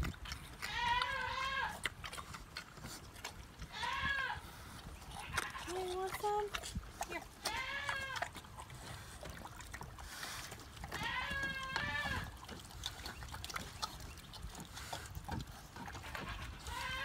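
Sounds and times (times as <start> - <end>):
pig slurping milk: 0.0 - 17.0.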